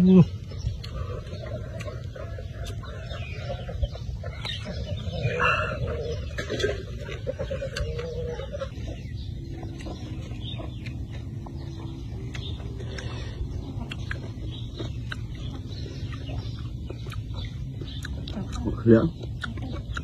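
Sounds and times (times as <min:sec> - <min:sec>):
chickens clucking: 0:00.0 - 0:20.0
crunchy chewing clicks: 0:00.0 - 0:20.0.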